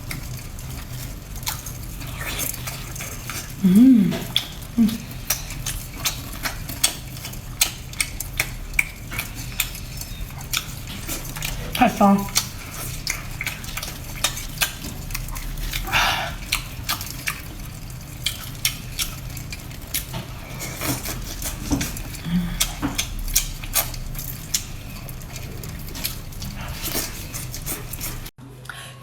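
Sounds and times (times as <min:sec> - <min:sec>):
person eating crab: 0:00.0 - 0:28.3.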